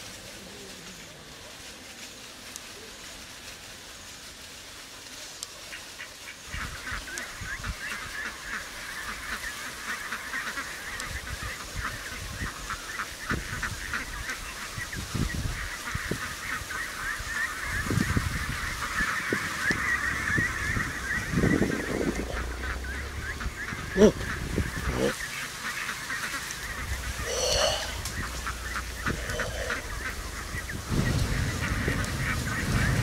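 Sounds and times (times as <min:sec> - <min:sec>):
ducks calling: 0:05.2 - 0:33.0.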